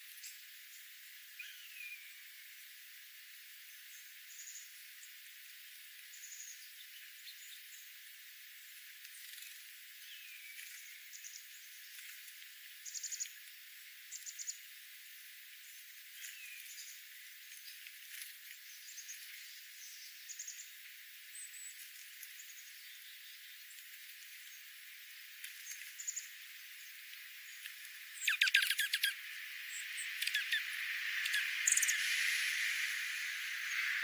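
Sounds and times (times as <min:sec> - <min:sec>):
steady faint hiss: 0:00.0 - 0:34.0
small birds chirping: 0:03.6 - 0:34.0.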